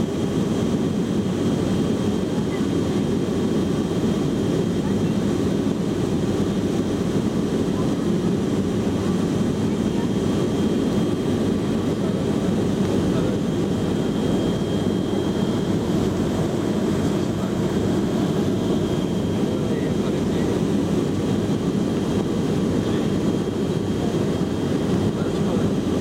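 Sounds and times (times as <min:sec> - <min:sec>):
airplane cabin engine noise: 0:00.0 - 0:26.0.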